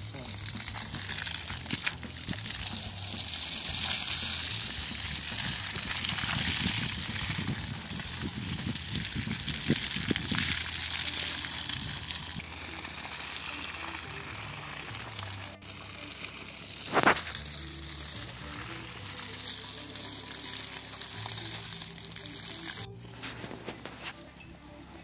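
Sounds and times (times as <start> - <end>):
water splashing onto wet soil: 0.0 - 15.9, 16.7 - 22.9
water gushing from hose: 0.0 - 22.9.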